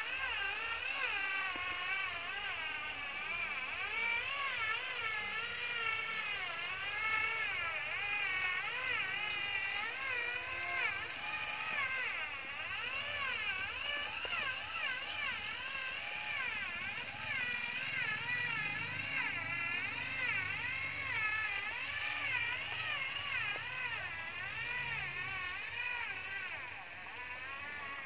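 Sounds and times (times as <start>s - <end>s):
toy truck electric motor whining: 0.0s - 28.0s.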